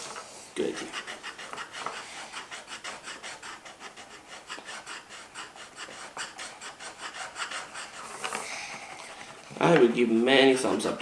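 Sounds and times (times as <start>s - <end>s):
pencils scribbling on paper: 0.0s - 11.0s.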